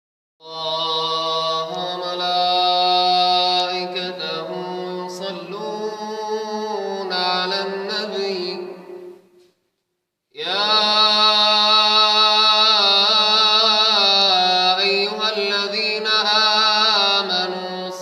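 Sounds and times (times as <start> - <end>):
man chanting: 0.4 - 9.1, 10.3 - 18.0.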